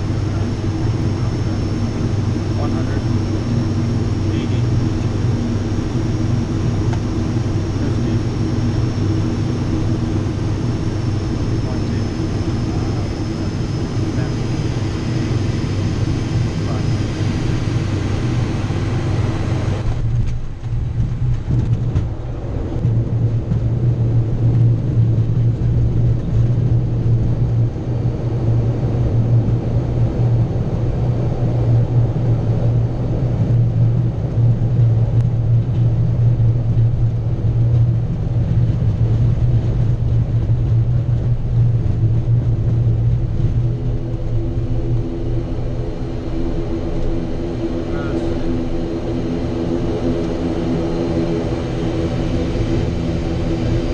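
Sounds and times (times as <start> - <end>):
turboprop engines droning: 0.0 - 53.9.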